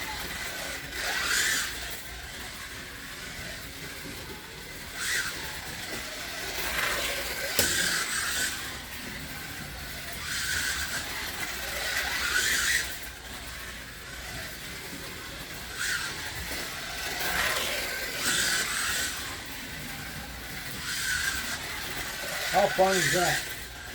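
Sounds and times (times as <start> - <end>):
slot car motor whine: 0.0 - 23.9.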